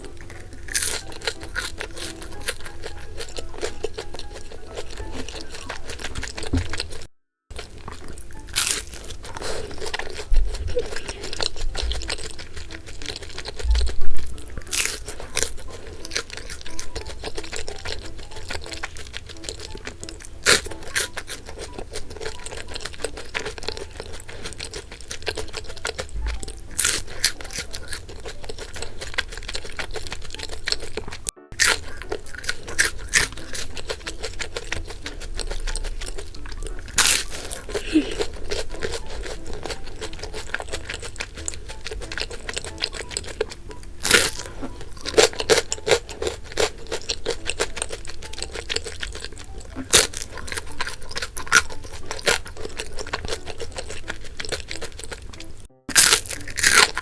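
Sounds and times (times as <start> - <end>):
crunchy biting and chewing: 0.0 - 57.0
light background music: 0.0 - 57.0.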